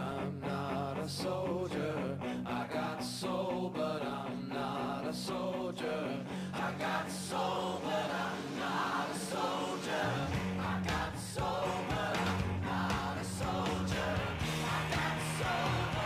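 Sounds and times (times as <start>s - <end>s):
music with sung vocals: 0.0s - 16.0s.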